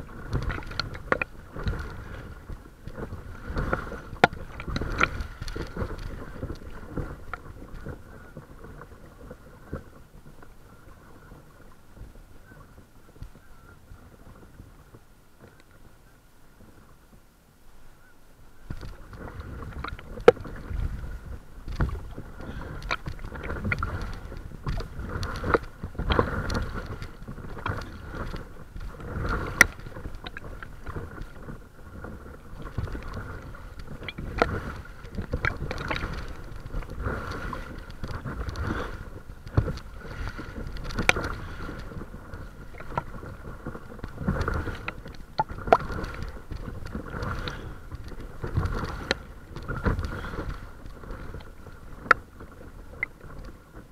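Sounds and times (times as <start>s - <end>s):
paddle strokes splashing: 0.0s - 53.9s
water sloshing against hull: 0.0s - 53.9s.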